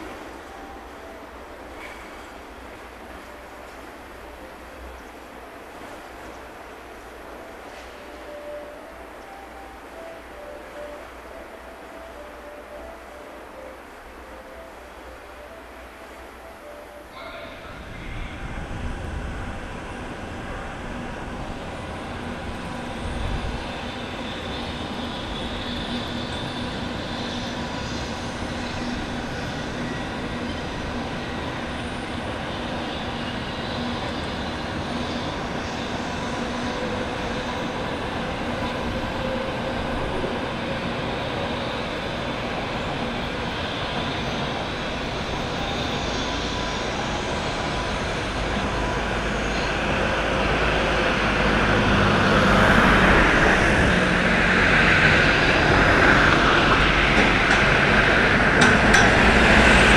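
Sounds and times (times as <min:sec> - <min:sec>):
train rumble and whoosh: 0:00.0 - 0:59.9.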